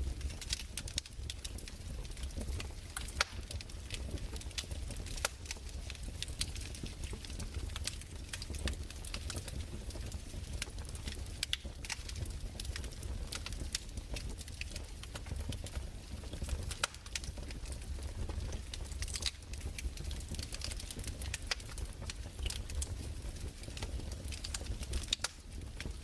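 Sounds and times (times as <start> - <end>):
fireplace crackling and popping: 0.0 - 26.0.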